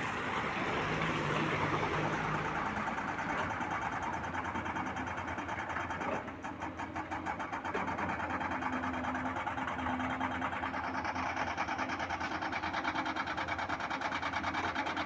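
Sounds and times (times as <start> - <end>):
construction machine engine chattering: 0.0 - 15.0.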